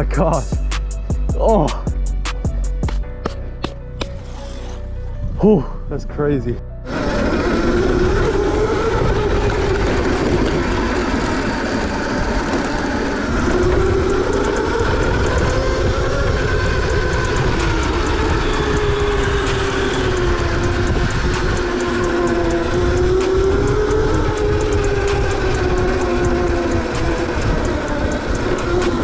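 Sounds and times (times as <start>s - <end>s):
wind rumble: 1.0s - 29.0s
electric motor whining: 3.6s - 5.3s, 6.8s - 29.0s.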